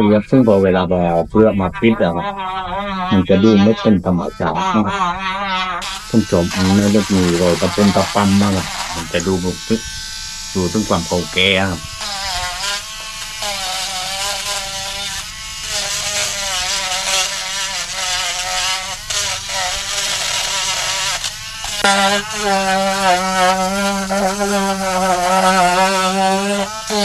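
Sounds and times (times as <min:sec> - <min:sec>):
rotary tool whining on wood: 0:02.3 - 0:27.0.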